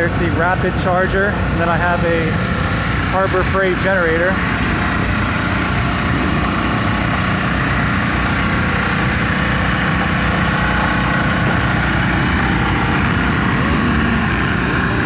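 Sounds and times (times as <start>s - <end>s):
portable generator running: 0.0s - 15.0s.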